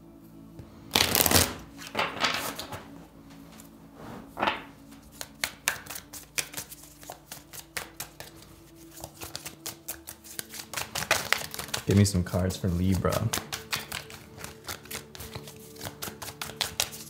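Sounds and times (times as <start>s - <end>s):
cards being shuffled: 0.9s - 3.7s, 4.3s - 17.0s.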